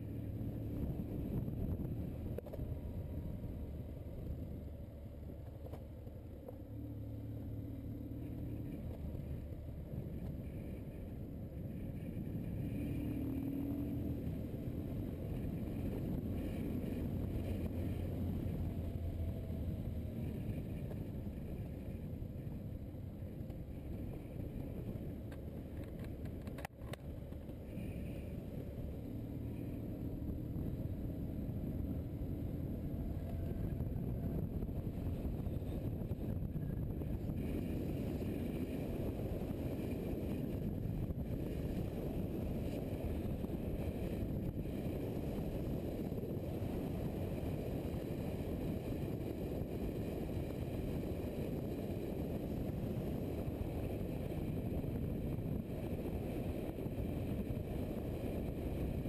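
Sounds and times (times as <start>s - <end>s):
wind rushing over microphone: 0.0s - 5.4s, 6.7s - 59.0s
motorcycle engine cruising: 0.0s - 59.0s.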